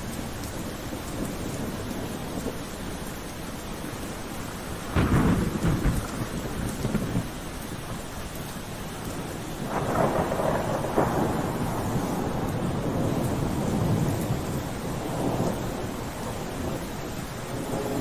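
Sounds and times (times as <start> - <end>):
long roll of thunder: 0.0 - 18.0
steady rain: 0.0 - 18.0.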